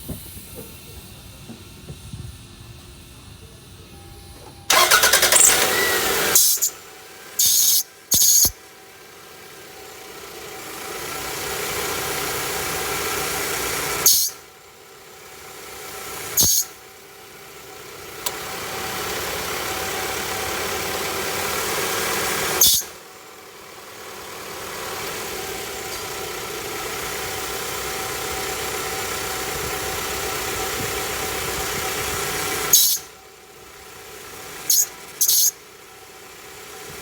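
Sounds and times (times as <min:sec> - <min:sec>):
car engine running: 0:00.0 - 0:37.0
engine belt noise with sharp burst: 0:04.7 - 0:37.0.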